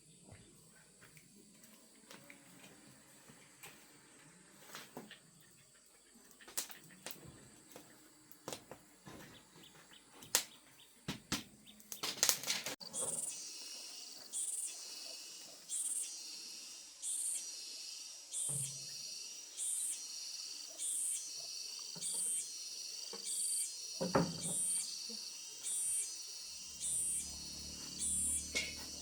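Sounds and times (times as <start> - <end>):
insects chirping in pulses: 4.6 - 29.0.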